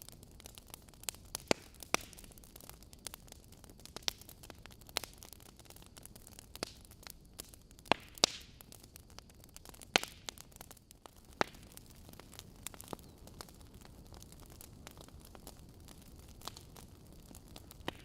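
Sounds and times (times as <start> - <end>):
fire crackling and popping: 0.0 - 18.0
fire hissing softly: 0.0 - 18.0.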